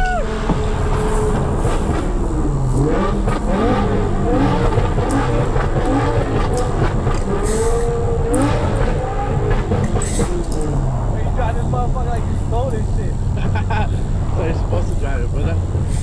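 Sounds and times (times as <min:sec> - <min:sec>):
sports car engine revving: 0:00.0 - 0:16.0.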